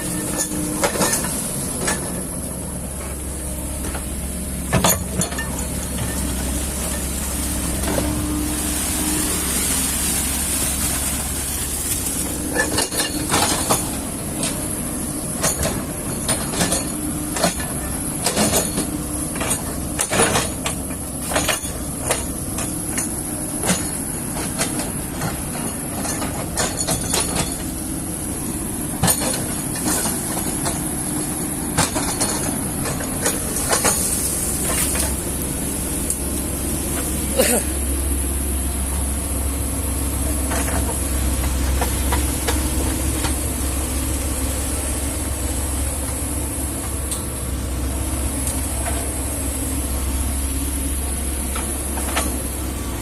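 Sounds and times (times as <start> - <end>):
excavator engine hum: 0.0 - 53.0.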